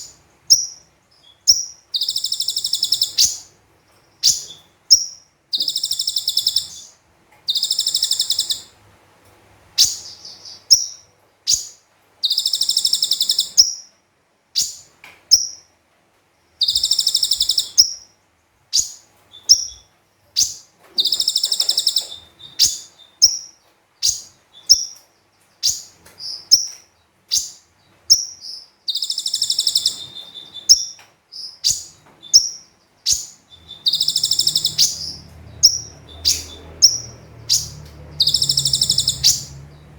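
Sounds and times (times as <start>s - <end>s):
sunbird singing: 0.0s - 8.7s, 9.8s - 14.0s, 16.6s - 39.9s.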